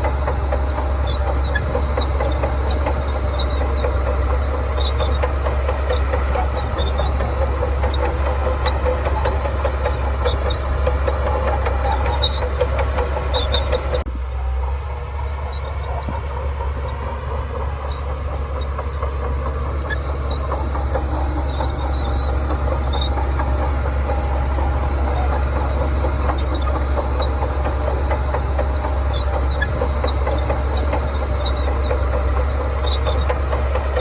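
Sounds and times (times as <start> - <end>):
diesel engine humming: 0.0 - 34.0
steel tracks clattering: 0.0 - 34.0.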